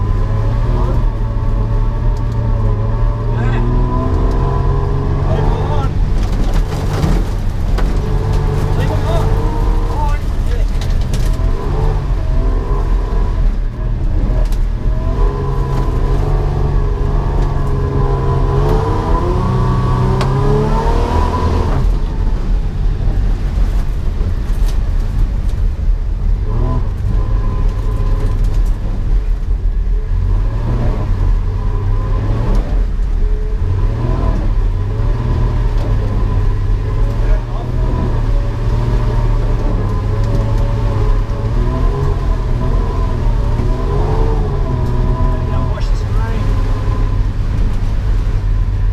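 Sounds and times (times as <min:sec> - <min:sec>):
car engine revving: 0:00.0 - 0:48.9
heavy low rumble: 0:00.0 - 0:48.9.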